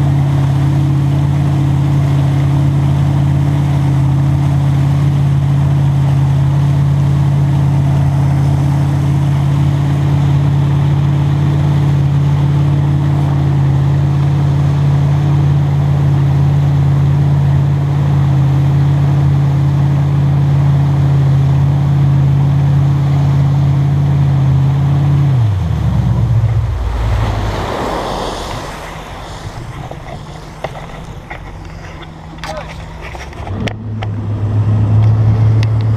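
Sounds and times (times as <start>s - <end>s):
rushing water spray: 0.0s - 20.9s, 22.6s - 35.9s
boat engine running: 0.0s - 35.9s.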